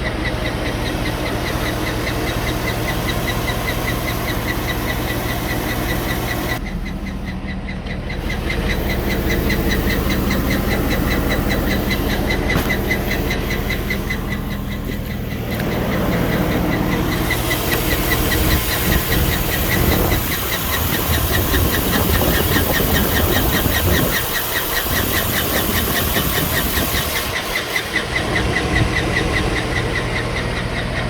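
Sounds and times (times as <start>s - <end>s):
car engine idling: 0.0s - 31.0s
fast engine ticking: 0.0s - 31.0s.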